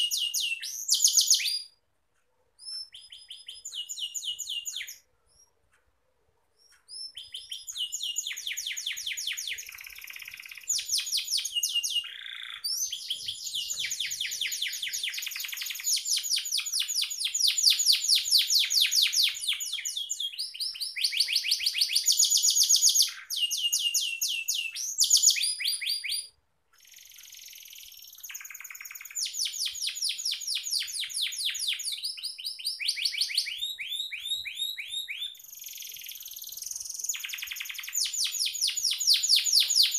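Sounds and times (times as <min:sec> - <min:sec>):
canary singing trills: 0:00.0 - 0:01.8, 0:02.6 - 0:05.7, 0:06.5 - 0:39.9.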